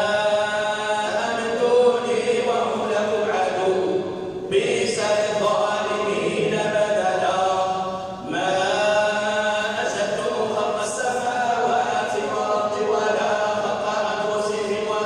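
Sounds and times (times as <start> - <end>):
person chanting recitation: 0.0 - 15.0.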